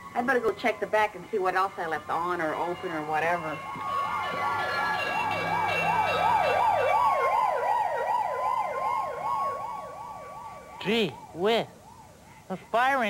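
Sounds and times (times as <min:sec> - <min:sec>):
fire engine sirens wailing: 0:00.0 - 0:13.0.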